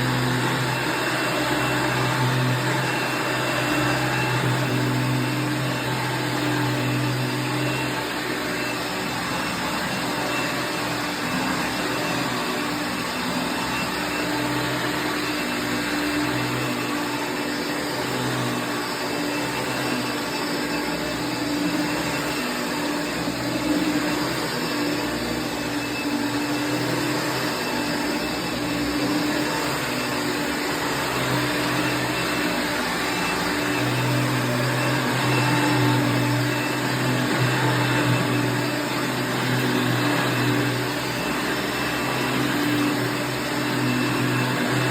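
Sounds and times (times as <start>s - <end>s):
upright vacuum cleaner whining: 0.0s - 44.9s.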